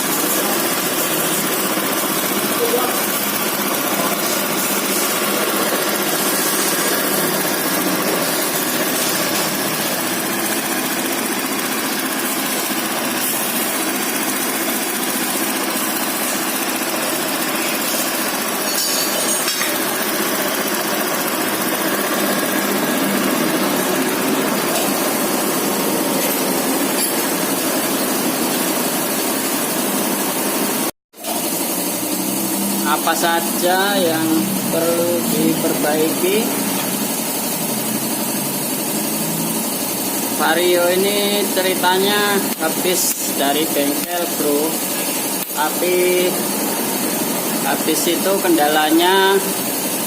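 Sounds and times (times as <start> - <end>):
scooter engine idling: 0.0 - 18.7, 19.7 - 50.0.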